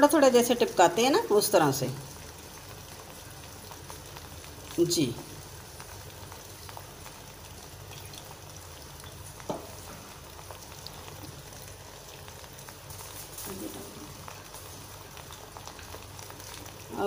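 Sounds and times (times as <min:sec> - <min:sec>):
food sizzling and crackling in pot: 0:00.0 - 0:17.0.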